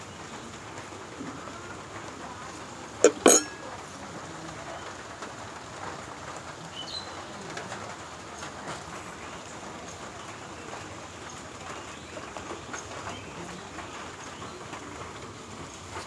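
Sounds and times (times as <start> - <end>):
light rain hiss: 0.0 - 16.0.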